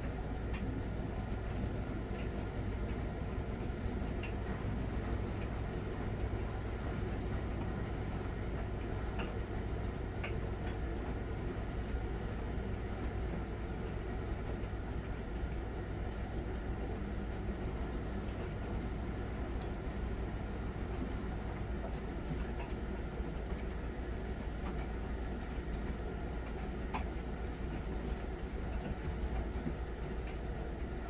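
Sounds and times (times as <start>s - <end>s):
washing machine rumbling: 0.0s - 31.0s.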